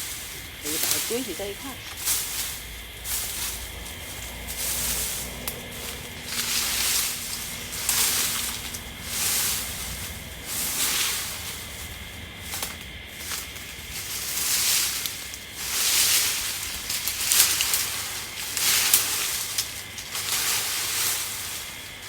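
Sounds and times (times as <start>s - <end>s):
garden tool sweeping leaves: 0.0s - 22.0s.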